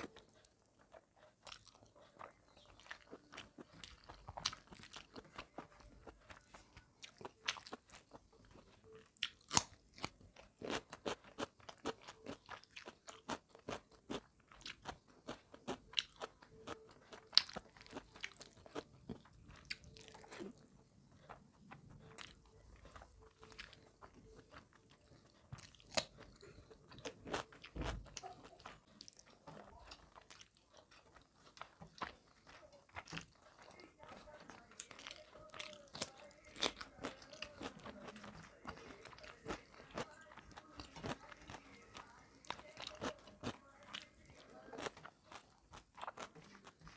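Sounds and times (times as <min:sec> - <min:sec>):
chewing with lip smacks: 0:00.0 - 0:46.9.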